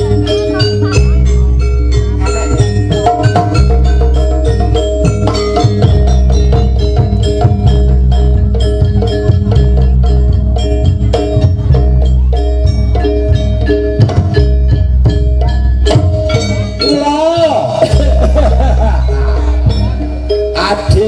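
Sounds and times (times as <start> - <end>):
deep steady bass: 0.0 - 21.0
drums: 0.0 - 21.0
metallophones playing fast melody: 0.0 - 21.0.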